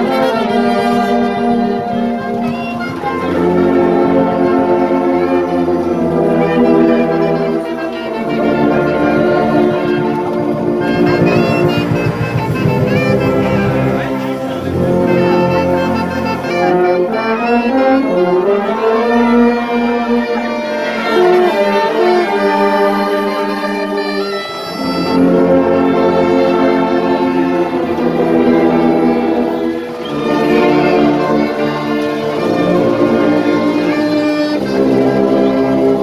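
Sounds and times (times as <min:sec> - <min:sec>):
brass band playing slow chords: 0:00.0 - 0:36.0.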